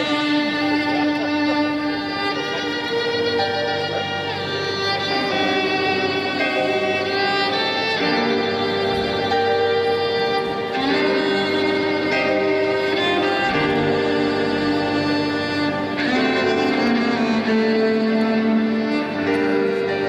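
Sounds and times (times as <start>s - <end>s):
solo violin slow melody: 0.0s - 20.0s.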